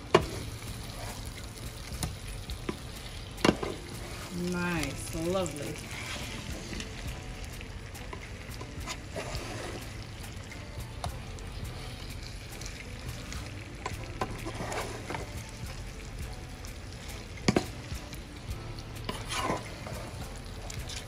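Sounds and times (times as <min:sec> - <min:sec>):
sauce sizzling in a pan: 0:00.0 - 0:21.0
spatula scraping a pan: 0:00.1 - 0:16.1, 0:19.0 - 0:21.0.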